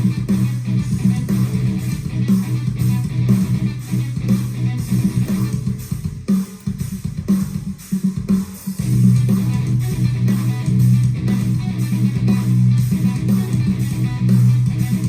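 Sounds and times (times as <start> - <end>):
metal riff on electric guitar: 0.0 - 6.2, 8.8 - 15.0.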